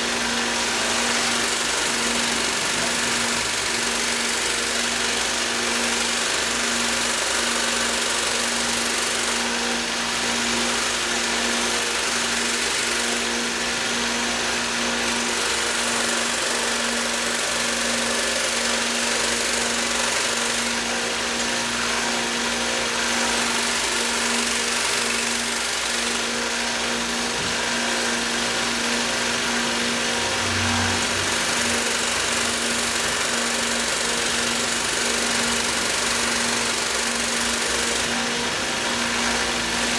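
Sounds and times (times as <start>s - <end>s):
belt grinder running: 0.0s - 39.9s.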